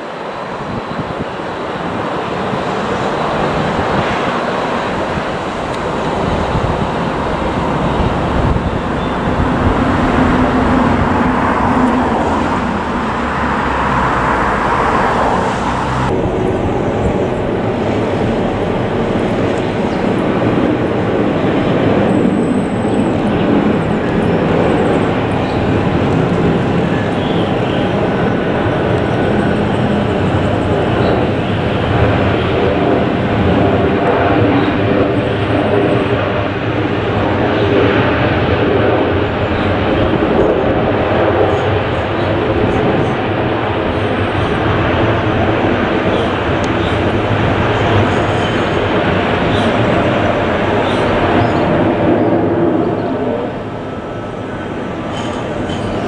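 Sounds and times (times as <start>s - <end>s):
jet airliner landing: 0.0s - 56.0s.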